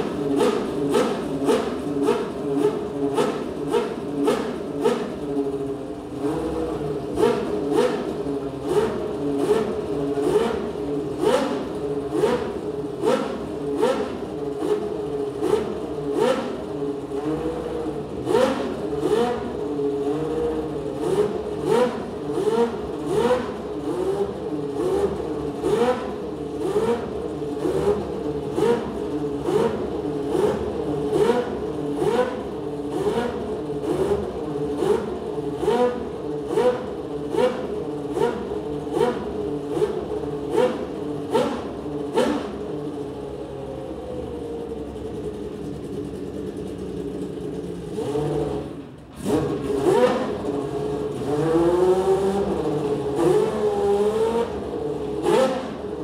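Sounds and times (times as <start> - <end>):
racing engine idling and revving: 0.0 - 56.0.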